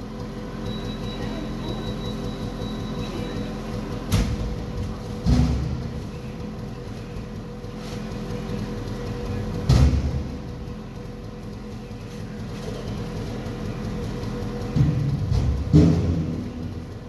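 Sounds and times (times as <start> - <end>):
forklift engine running: 0.0 - 17.0.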